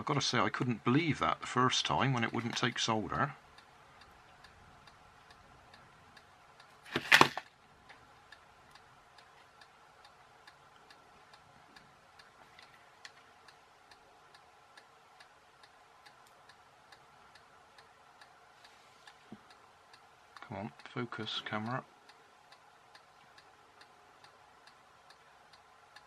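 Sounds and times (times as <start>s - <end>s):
light ticking: 0.0s - 6.9s, 7.5s - 26.0s
faint steady hum: 0.0s - 26.0s.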